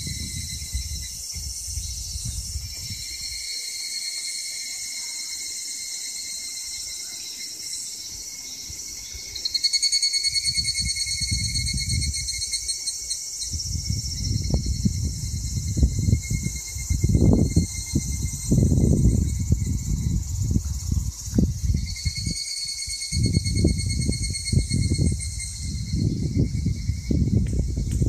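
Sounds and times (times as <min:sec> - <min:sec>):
cicadas trilling: 0:00.0 - 0:28.0.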